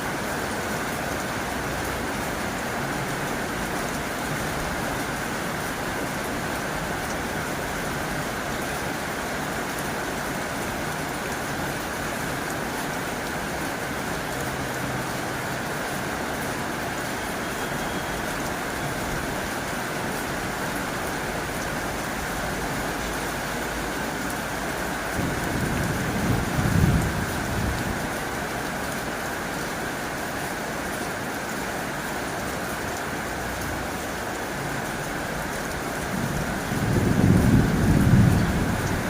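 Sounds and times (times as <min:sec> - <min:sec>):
heavy rain on a tin roof: 0:00.0 - 0:39.0.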